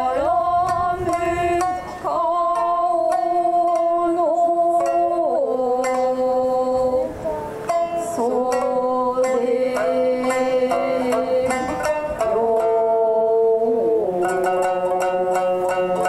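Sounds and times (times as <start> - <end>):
person singing long notes: 0.0 - 16.0
shamisen plucking: 0.0 - 16.0.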